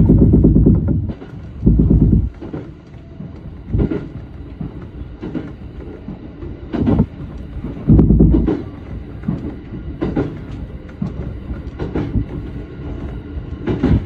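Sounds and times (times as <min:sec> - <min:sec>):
electric train low rumble: 0:00.0 - 0:14.0
wheels clacking over rail joints: 0:00.0 - 0:14.0.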